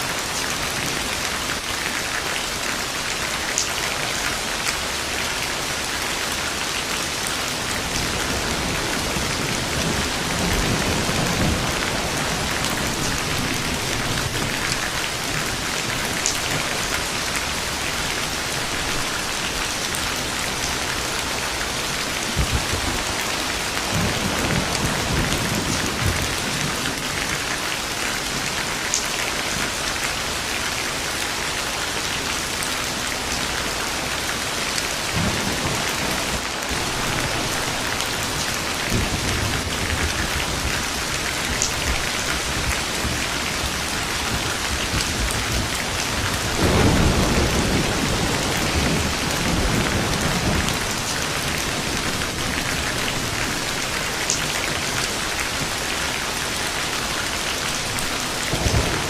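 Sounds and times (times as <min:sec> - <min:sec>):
heavy rain pattering: 0:00.0 - 0:59.0
thunder rumbling: 0:04.1 - 0:28.8, 0:34.9 - 0:59.0.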